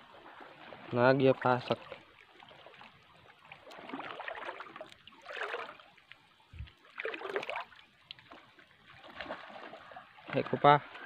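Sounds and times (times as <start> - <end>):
seawater sloshing around wading feet: 0.0 - 11.0.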